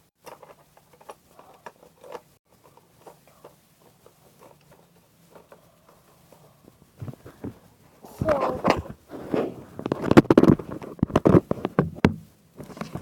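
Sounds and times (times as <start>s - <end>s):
light rustling of plastic toy: 0.0s - 13.0s.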